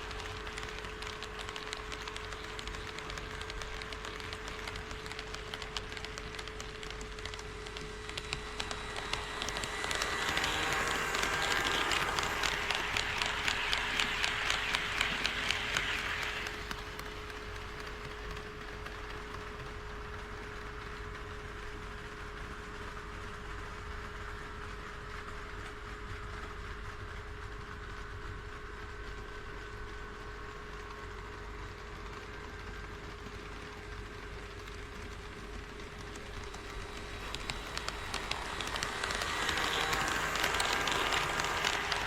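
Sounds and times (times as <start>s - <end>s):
model train wheels clicking: 0.0s - 42.0s.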